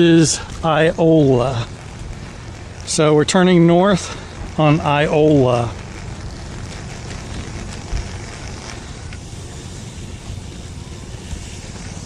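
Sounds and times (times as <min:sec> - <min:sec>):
trike rolling on pavement: 0:00.0 - 0:12.0
wind buffeting microphone: 0:00.0 - 0:12.0.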